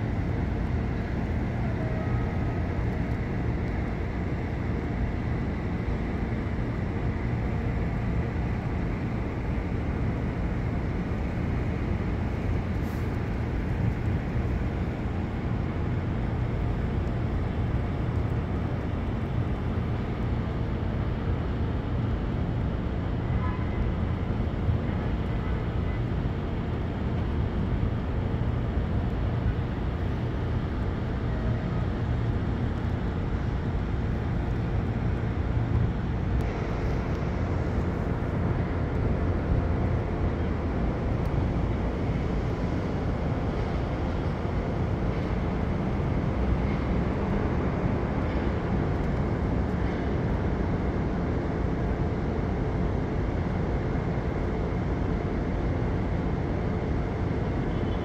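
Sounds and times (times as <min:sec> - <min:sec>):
city traffic rumble: 0:00.0 - 0:58.0.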